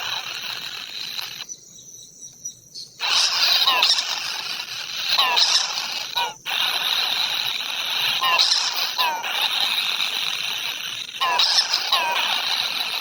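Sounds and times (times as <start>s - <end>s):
squealing bird calls: 0.0s - 13.0s.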